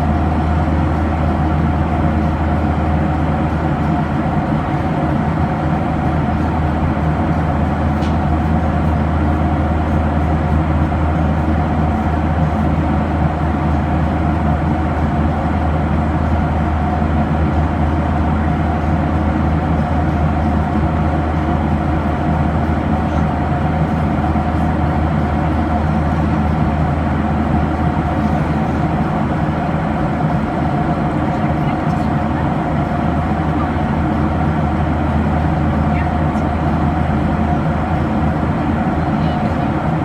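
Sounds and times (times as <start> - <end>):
airplane cabin drone: 0.0 - 40.0.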